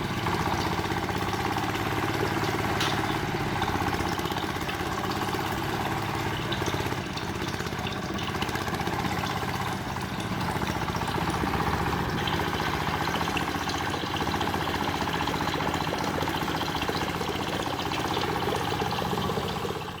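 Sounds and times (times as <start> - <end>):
small motor running steadily: 0.0 - 20.0.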